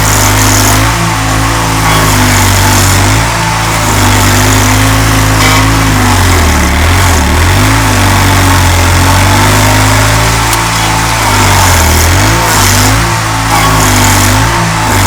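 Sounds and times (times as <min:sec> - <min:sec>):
cutting wheel scraping: 0:00.0 - 0:15.0
stump grinder engine running: 0:00.0 - 0:15.0.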